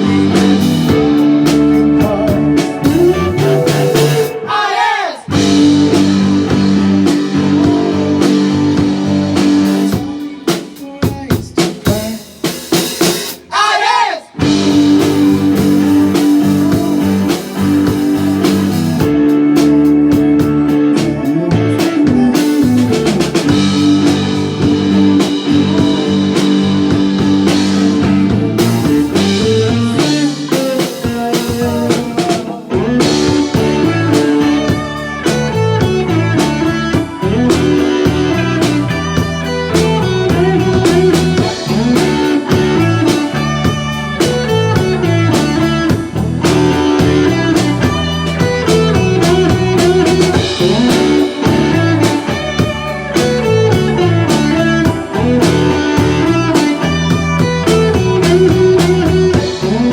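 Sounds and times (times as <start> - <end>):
drum beat: 0.0 - 4.5, 5.3 - 20.5, 21.1 - 59.9
blues-rock band music: 0.0 - 59.9.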